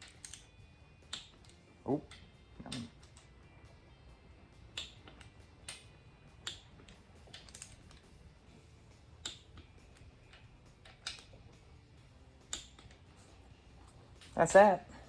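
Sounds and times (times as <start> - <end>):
torque wrench clicking: 0.0 - 3.4, 4.6 - 8.2, 8.8 - 14.4.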